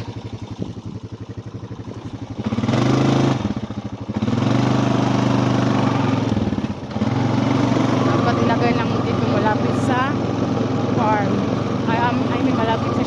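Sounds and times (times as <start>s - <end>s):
small vehicle engine revving: 0.0s - 13.0s.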